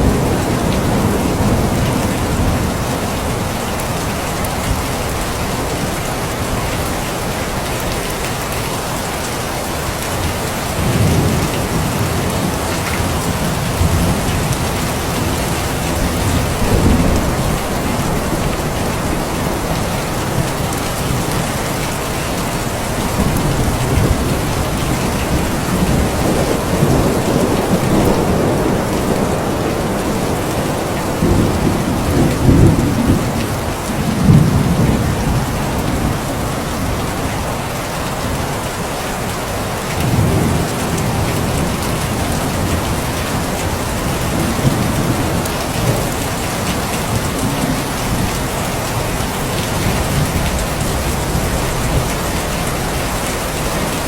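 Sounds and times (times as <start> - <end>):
low thunder rumbles: 0.0 - 5.7, 10.7 - 37.6, 40.0 - 54.0
heavy rain falling: 0.0 - 54.0.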